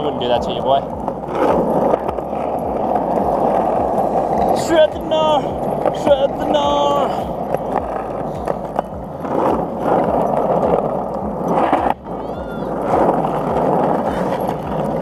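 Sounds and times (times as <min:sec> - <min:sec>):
skateboard wheels rolling on asphalt: 0:00.0 - 0:15.0.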